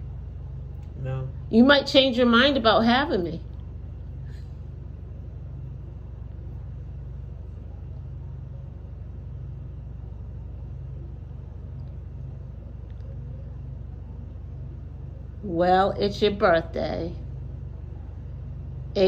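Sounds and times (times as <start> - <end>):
low rumble and hum: 0.0 - 19.0.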